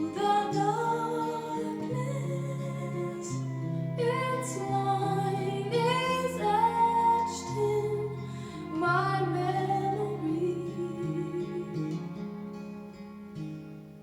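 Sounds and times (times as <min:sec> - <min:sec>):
woman singing: 0:00.0 - 0:12.3
low sustained accompaniment: 0:00.0 - 0:13.6
guitar: 0:00.0 - 0:14.0.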